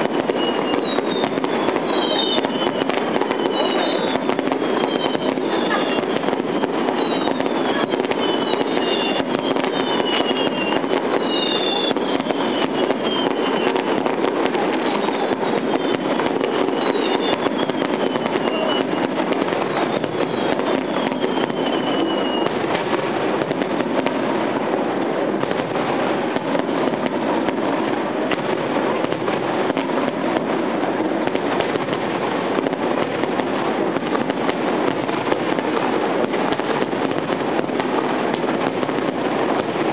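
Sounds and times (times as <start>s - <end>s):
fireworks bursting and crackling: 0.0s - 39.9s
fireworks whistling downward: 0.0s - 39.9s.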